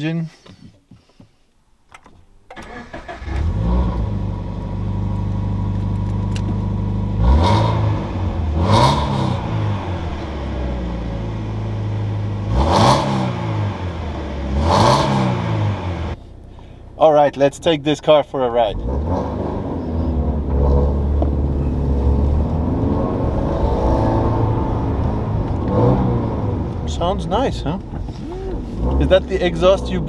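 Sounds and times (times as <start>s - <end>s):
car engine starting and idling: 1.9s - 30.0s
engine revving: 2.6s - 16.2s, 18.6s - 30.0s.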